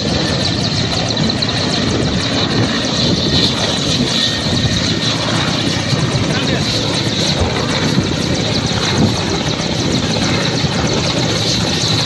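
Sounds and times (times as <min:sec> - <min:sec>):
helicopter rotor and engine noise: 0:00.0 - 0:12.0
helicopter turbine whine: 0:00.0 - 0:12.0.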